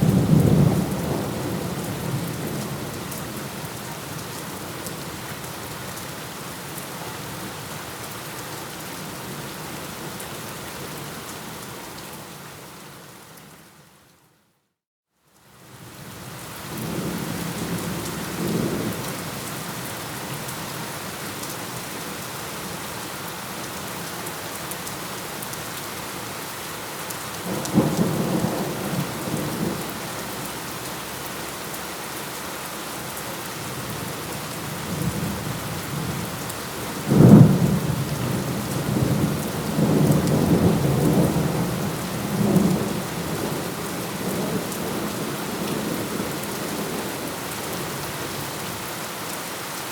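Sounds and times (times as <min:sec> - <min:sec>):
steady rain: 0:00.0 - 0:14.2, 0:15.3 - 0:49.9.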